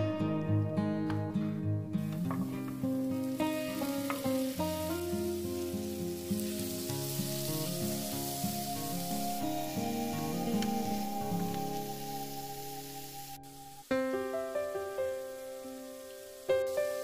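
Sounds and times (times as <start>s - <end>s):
guitar music: 0.0s - 17.0s
vegetables sizzling in a frying pan: 2.1s - 17.0s.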